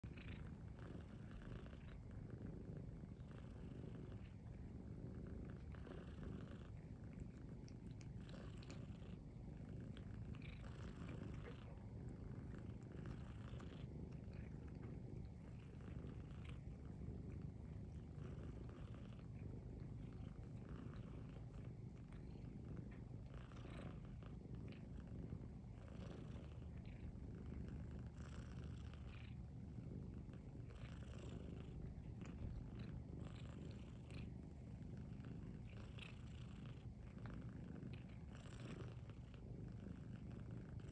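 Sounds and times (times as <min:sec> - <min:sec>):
cats purring: 0:00.0 - 0:40.9.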